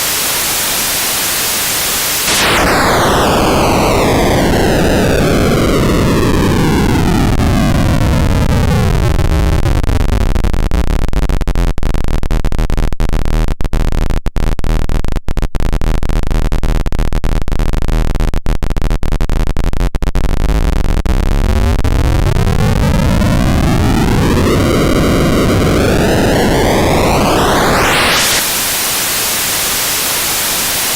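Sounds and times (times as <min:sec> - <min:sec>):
gritty digital noise buzz: 0:00.0 - 0:30.9.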